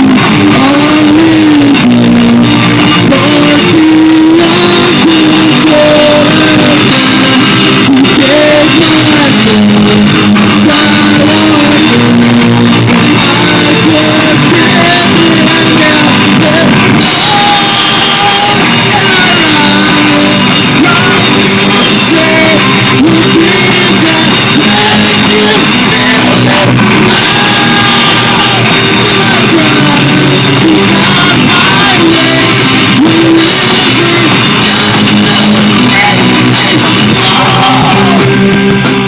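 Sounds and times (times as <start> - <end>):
live rock band playing: 0.0 - 39.0
person singing: 0.0 - 39.0.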